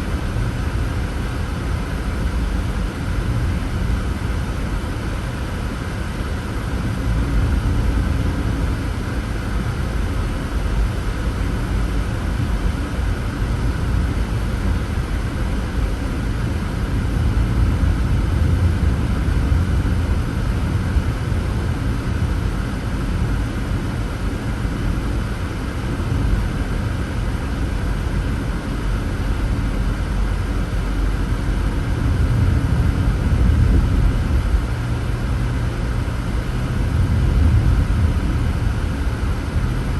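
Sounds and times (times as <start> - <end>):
car driving interior rumble: 0.0 - 39.9.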